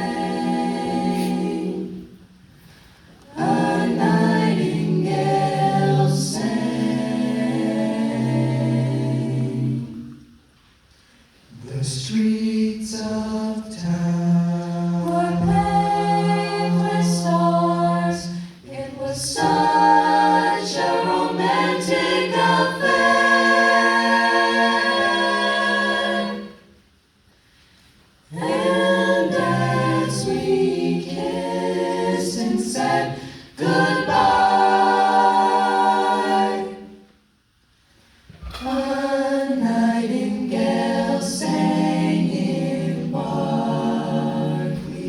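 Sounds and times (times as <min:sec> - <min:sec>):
choir singing a cappella: 0:00.0 - 0:10.5, 0:11.5 - 0:27.0, 0:28.2 - 0:37.4, 0:38.1 - 0:45.0.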